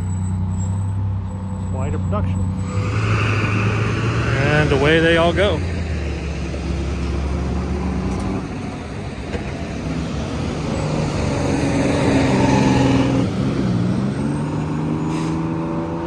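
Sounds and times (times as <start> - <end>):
heavy truck engines: 0.0 - 16.0
street traffic: 0.0 - 16.0.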